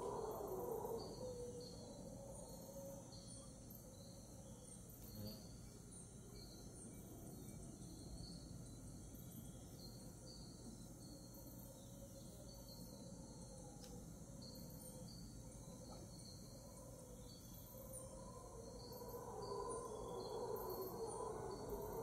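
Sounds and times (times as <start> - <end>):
distant howler monkeys howling: 0.0 - 22.0
insects and birds chirping: 0.0 - 22.0.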